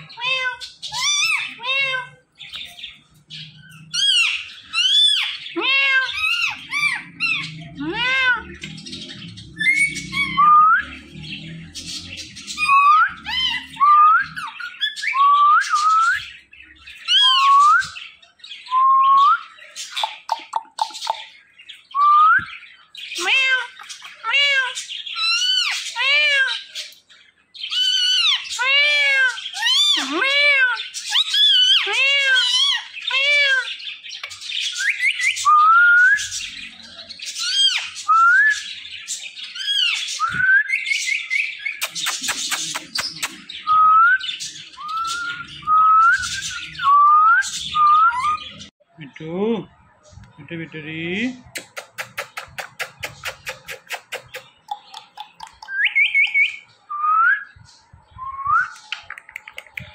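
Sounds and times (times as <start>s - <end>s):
parakeet whistles and squawks: 0.0s - 27.0s, 27.6s - 48.7s, 51.5s - 59.9s.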